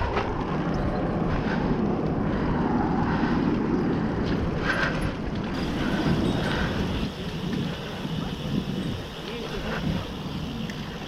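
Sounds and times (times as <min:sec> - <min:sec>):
bicycle rolling noise: 0:00.0 - 0:11.0
wind on microphone: 0:00.0 - 0:11.0.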